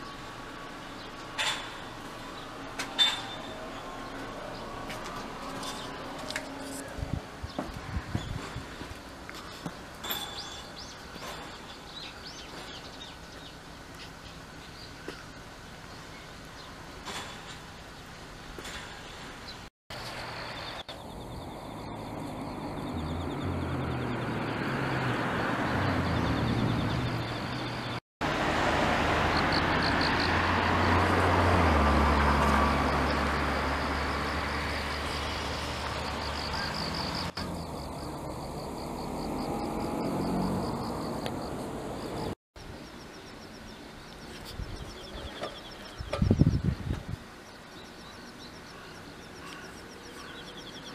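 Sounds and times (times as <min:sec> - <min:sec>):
road vehicles passing: 0:00.0 - 0:43.1.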